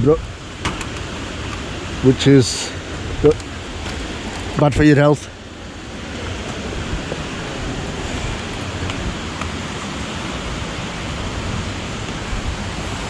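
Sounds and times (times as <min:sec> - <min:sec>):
stream rushing over small waterfalls: 0:00.0 - 0:13.0.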